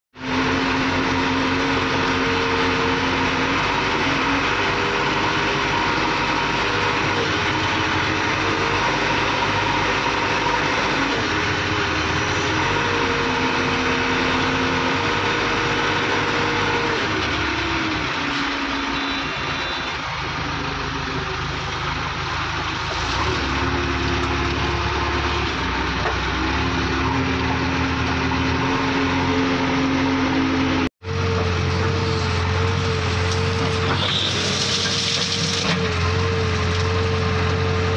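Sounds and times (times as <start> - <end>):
diesel engine running: 0.2 - 37.9.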